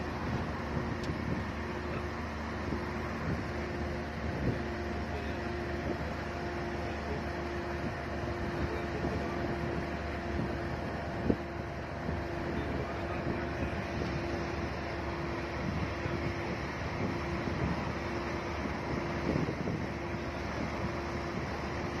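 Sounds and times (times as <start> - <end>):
road and wind noise: 0.0 - 22.0
steady hum: 0.0 - 22.0.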